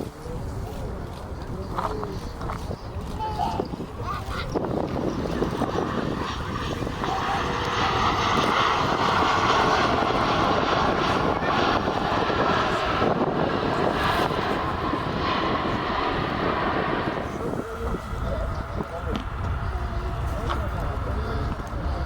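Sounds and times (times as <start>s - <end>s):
airliner engine noise: 0.0s - 22.0s.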